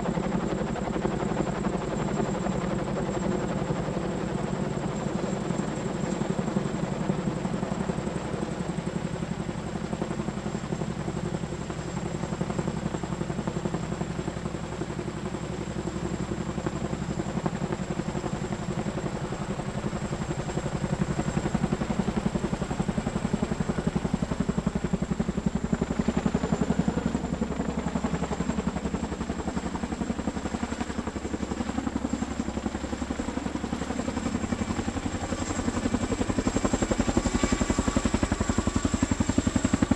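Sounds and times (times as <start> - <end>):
helicopter rotor beat: 0.0 - 39.9.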